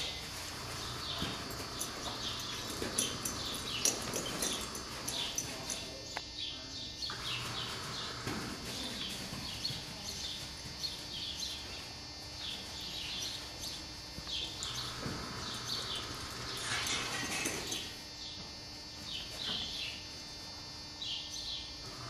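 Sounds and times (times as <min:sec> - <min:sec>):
small birds chirping: 0:00.0 - 0:20.2, 0:20.9 - 0:22.0.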